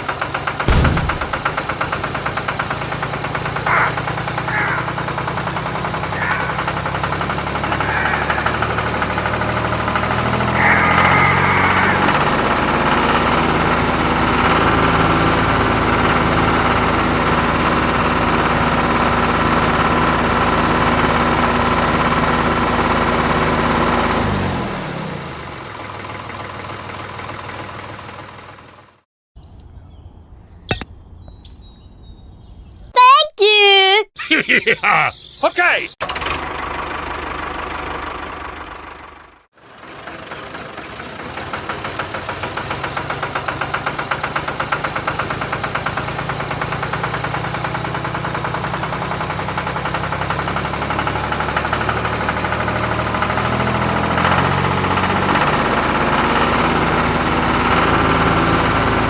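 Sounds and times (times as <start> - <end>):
engine running: 0.0 - 29.0, 36.0 - 59.0.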